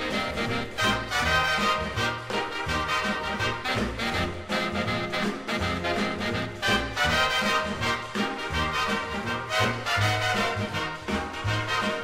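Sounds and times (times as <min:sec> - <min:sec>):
swing music with brass: 0:00.0 - 0:12.0.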